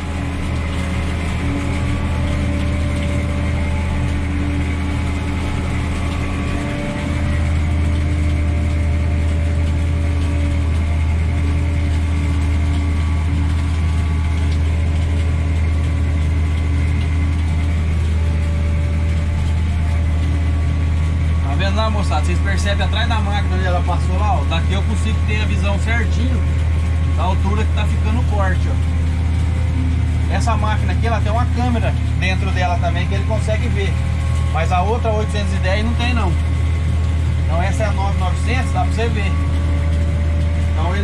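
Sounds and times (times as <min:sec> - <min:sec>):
harvester working: 0:00.0 - 0:41.0
tractor diesel engine droning: 0:00.0 - 0:41.0.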